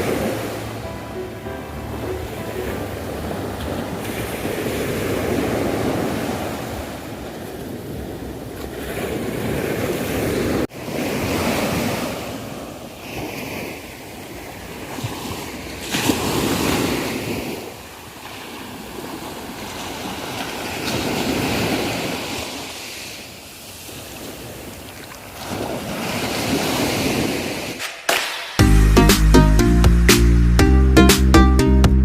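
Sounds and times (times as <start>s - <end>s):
sea waves breaking on beach: 0.0s - 28.6s.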